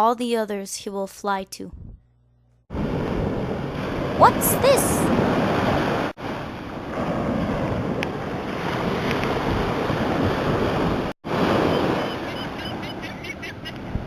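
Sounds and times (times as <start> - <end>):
wind: 2.7 - 14.0.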